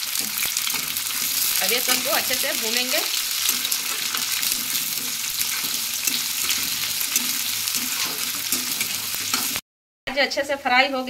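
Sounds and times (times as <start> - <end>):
onions sizzling in hot oil: 0.0 - 9.6
metal spatula scraping pan: 0.1 - 9.6.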